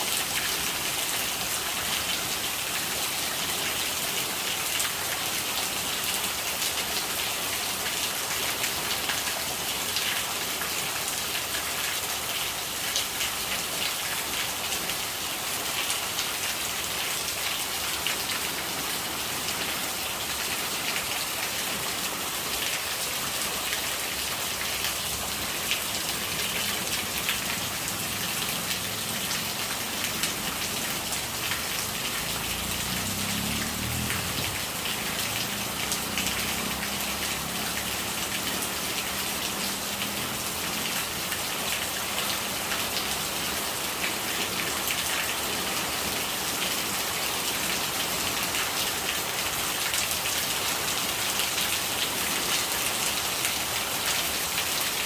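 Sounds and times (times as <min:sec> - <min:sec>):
rain falling: 0:00.0 - 0:55.0
rainwater gurgling: 0:00.0 - 0:55.0.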